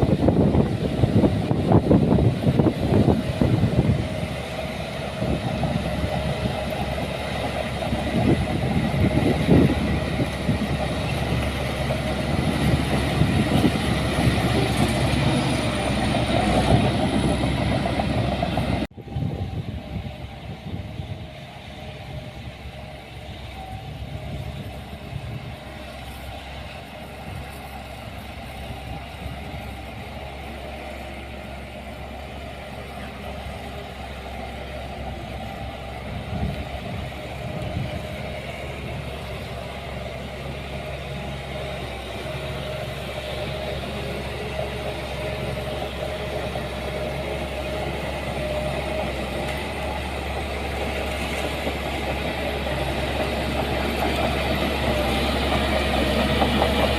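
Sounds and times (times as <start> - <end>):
heavy machinery diesel engine running: 0.0 - 56.9.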